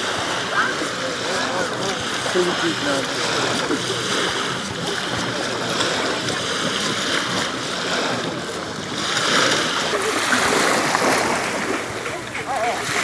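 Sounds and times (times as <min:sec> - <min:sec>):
small waves washing ashore: 0:00.0 - 0:13.0.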